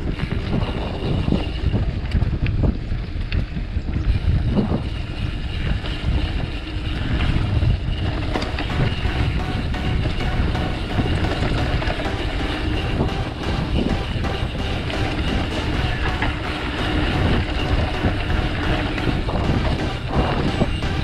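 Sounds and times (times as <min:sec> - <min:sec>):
bike rattling over bumps: 0:00.0 - 0:21.0
bike tyre rumble: 0:00.0 - 0:21.0
wind buffeting microphone: 0:00.0 - 0:21.0.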